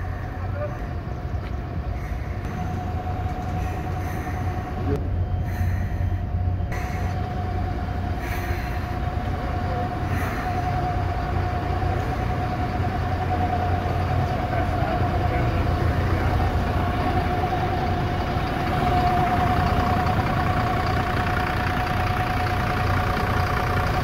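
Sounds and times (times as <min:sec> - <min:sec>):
high-pitched whine: 0:00.0 - 0:21.3
bus engine idling: 0:00.0 - 0:24.0.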